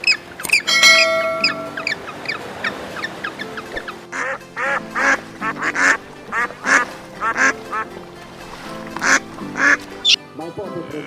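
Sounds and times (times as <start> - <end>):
background music: 0.0 - 11.0
ducks quacking: 0.8 - 10.2.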